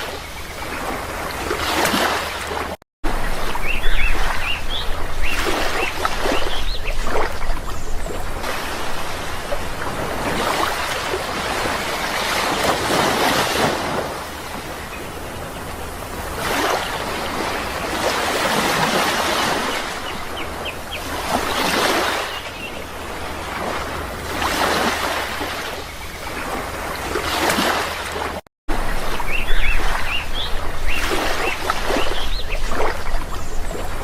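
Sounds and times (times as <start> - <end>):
sea waves breaking: 0.0 - 34.0.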